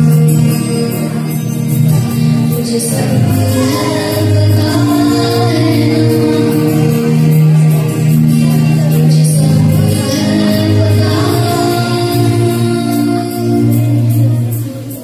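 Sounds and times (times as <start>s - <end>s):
boy singing into microphone: 0.0s - 15.0s
musical accompaniment: 0.0s - 15.0s.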